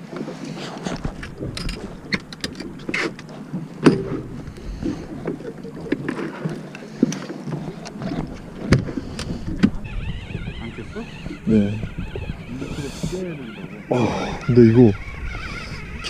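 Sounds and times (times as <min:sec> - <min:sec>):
boat background noise: 0:00.0 - 0:16.0.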